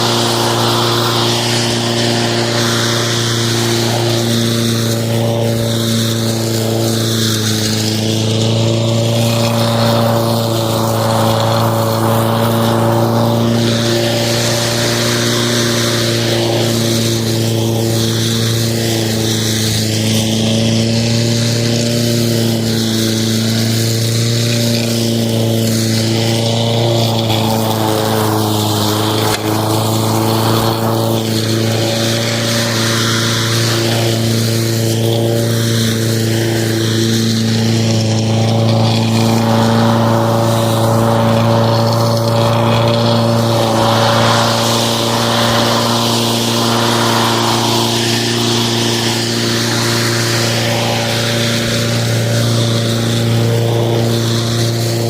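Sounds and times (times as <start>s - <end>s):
lawn mower running: 0.0s - 55.0s.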